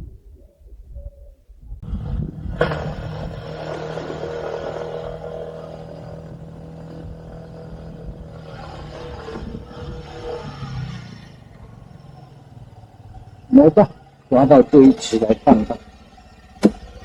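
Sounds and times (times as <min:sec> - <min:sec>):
vehicle engine running: 0:01.8 - 0:17.0.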